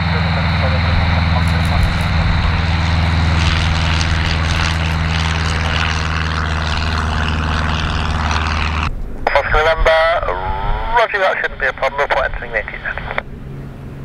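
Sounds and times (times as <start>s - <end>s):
propeller aircraft engine droning: 0.0s - 14.0s.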